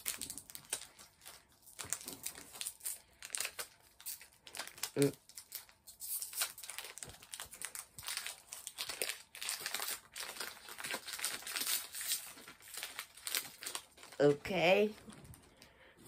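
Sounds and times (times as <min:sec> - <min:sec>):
foil wrapper crinkling: 0:00.0 - 0:15.8.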